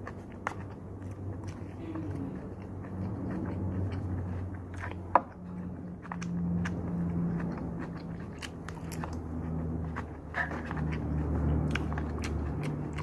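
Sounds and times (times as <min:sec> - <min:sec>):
person chewing and biting food: 0:00.0 - 0:13.0.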